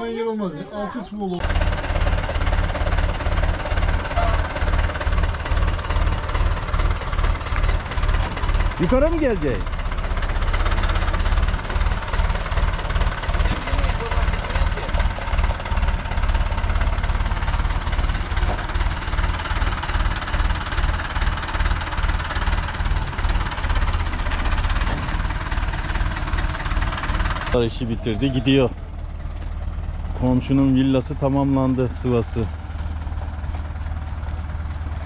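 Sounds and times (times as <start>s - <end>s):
vehicle engine running: 1.4s - 35.0s.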